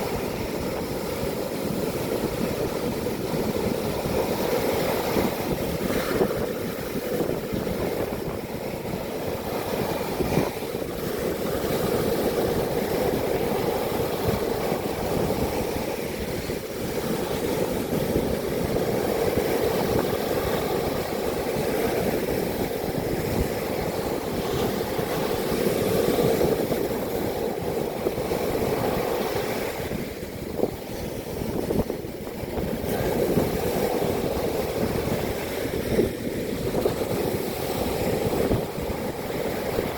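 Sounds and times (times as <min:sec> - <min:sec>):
strong wind: 0:00.0 - 0:39.9
surf: 0:00.0 - 0:39.9.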